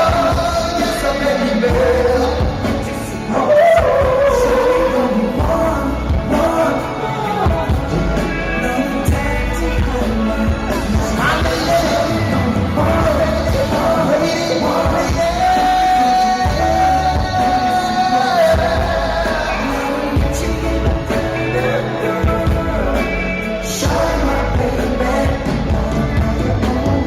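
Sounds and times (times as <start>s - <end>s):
live pop concert music with singing: 0.0s - 27.0s.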